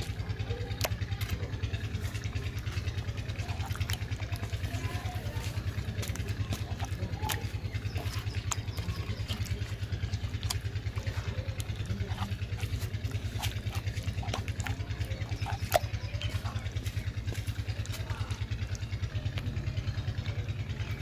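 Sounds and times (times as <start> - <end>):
engine running: 0.0 - 21.0
hands squelching paste: 0.0 - 21.0.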